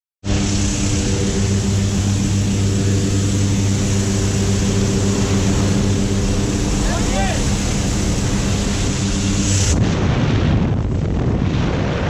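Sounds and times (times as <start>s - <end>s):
propeller aircraft engines droning: 0.2s - 12.0s
cabin air rushing: 0.3s - 10.5s.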